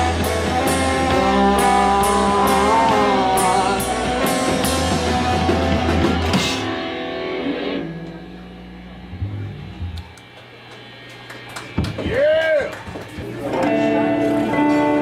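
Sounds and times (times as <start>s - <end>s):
live band playing: 0.0s - 12.3s, 12.9s - 15.0s.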